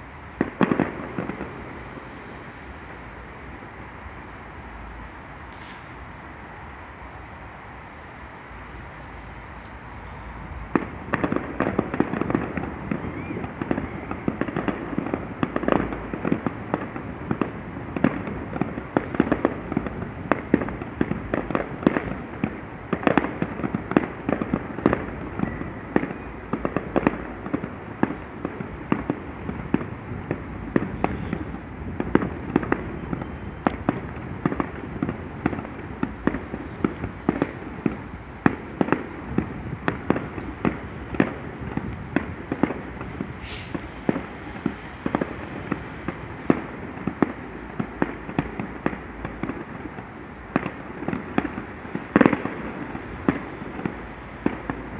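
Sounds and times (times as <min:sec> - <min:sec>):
fireworks bangs and crackles: 0:00.0 - 0:06.3, 0:08.7 - 0:54.9.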